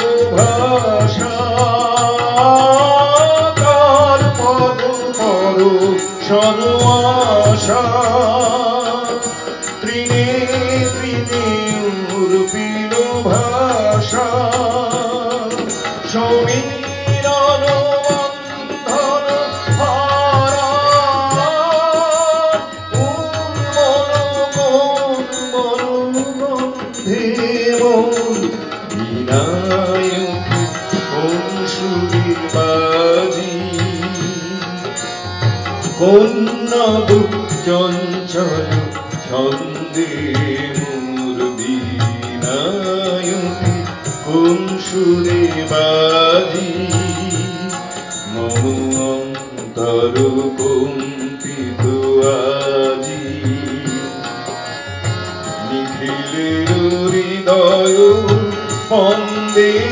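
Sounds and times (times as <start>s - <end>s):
harmonium: 0.0s - 59.9s
man singing: 0.0s - 59.9s.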